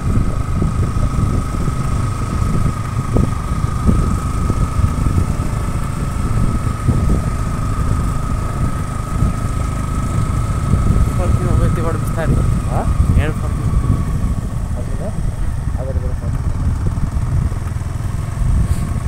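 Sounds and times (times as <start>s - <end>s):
constant thin whine: 0.0s - 19.0s
vehicle engine rumble: 0.0s - 19.0s.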